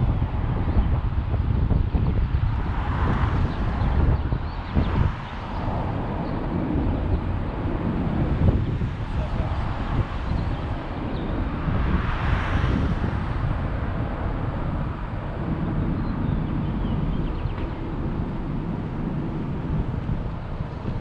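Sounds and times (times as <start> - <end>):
car road and wind noise: 0.0 - 21.0.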